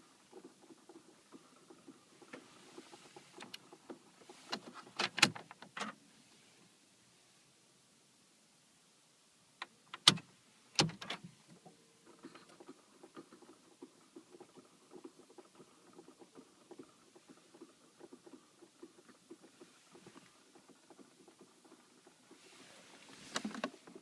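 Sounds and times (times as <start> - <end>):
irregular ticking and crackling: 0.0 - 5.9, 9.6 - 24.0.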